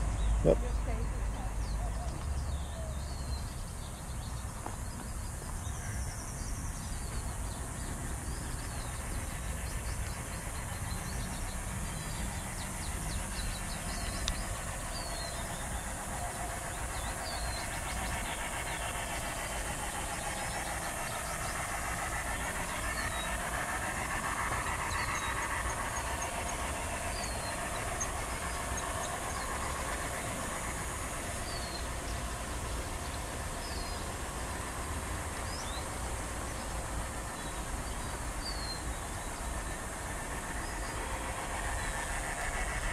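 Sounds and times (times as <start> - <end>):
model train wheels and motor: 0.0 - 42.9
steady low rumble: 0.0 - 42.9.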